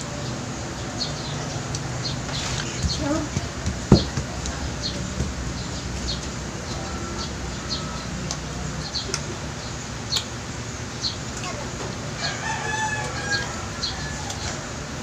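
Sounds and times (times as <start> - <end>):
faint voices: 0.0 - 10.0, 11.3 - 15.0
steady low hum: 0.0 - 15.0
small birds chirping: 0.1 - 14.7.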